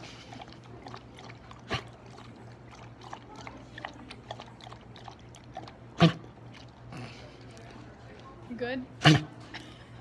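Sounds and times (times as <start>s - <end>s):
dog lapping water: 0.0s - 9.4s.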